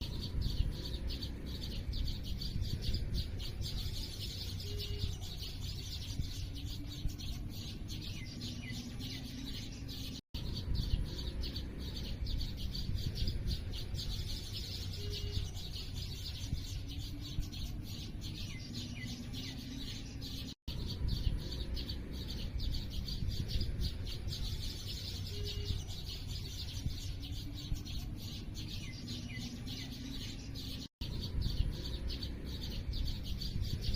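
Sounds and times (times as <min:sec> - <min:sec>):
low steady rumble: 0:00.0 - 0:33.9
small birds chirping: 0:00.0 - 0:33.9.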